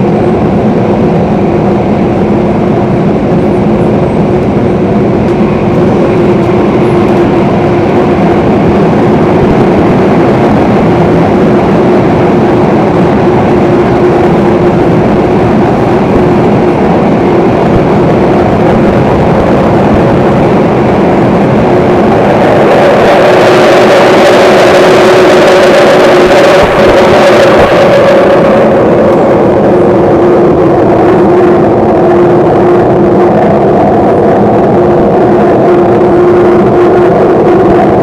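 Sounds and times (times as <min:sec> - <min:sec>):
higher hum: 0:00.0 - 0:38.0
train motor humming: 0:00.0 - 0:38.0
train wheels rumbling on rail: 0:00.0 - 0:38.0.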